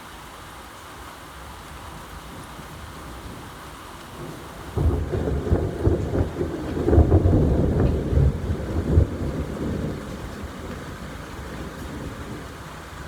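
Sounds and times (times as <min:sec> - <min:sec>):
rain hiss: 0:00.0 - 0:13.0
deep rumble of thunder: 0:02.3 - 0:13.0.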